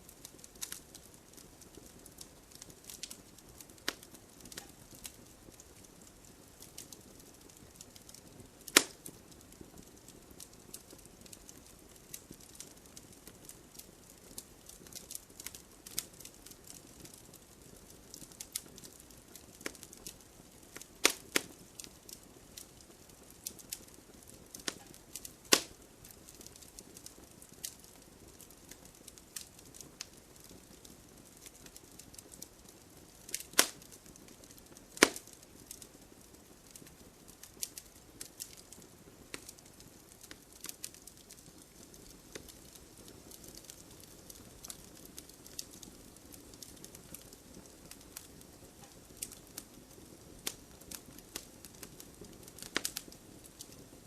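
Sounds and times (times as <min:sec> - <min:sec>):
faint hiss: 0:00.0 - 0:54.0
logs crackling and popping: 0:00.0 - 0:54.0.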